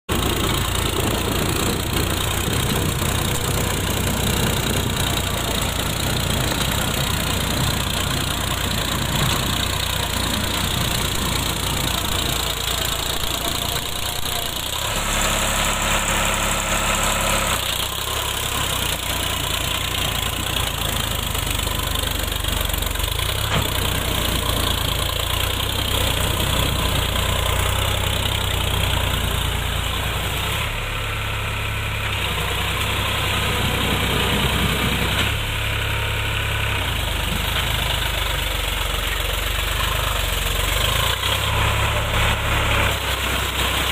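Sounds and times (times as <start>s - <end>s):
tractor diesel engine under load: 0.0s - 43.9s
tyres churning through mud: 0.1s - 43.9s.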